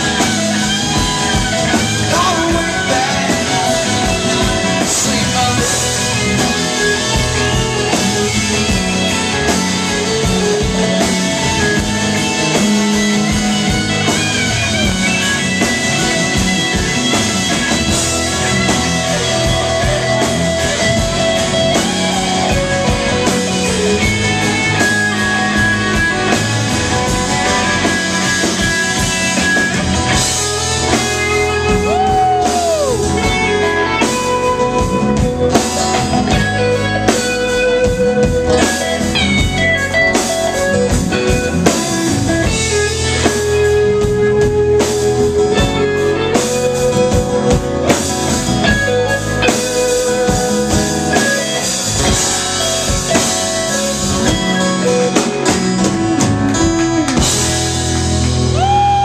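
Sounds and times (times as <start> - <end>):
bass guitar: 0.0 - 59.0
drums: 0.0 - 59.0
electric lead guitar bending notes: 0.0 - 59.0.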